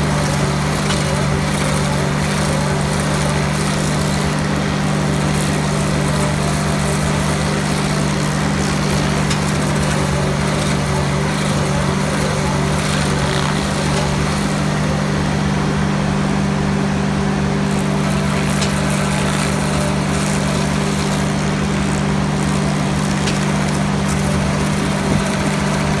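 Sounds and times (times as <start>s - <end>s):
engine droning under load: 0.0s - 26.0s
stump grinder grinding: 0.0s - 26.0s.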